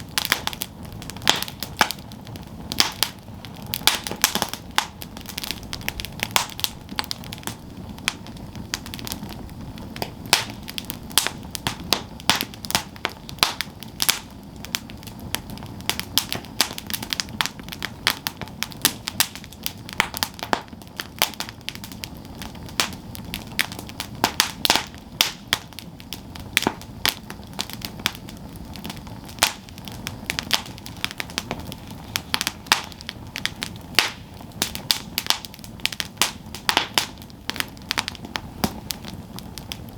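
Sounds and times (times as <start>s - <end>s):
campfire crackling and popping: 0.0s - 39.9s
low rush of flames: 0.0s - 39.9s.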